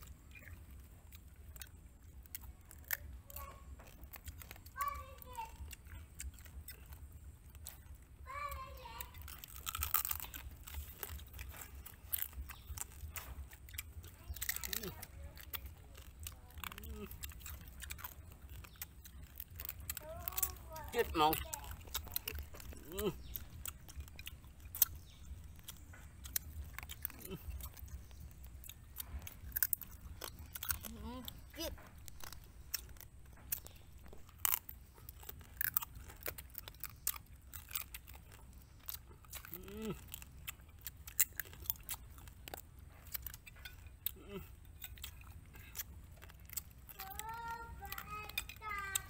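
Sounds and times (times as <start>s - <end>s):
crunchy chewing: 0.0s - 49.0s
steady low hum: 0.0s - 49.0s
wet mouth clicks: 9.3s - 49.0s.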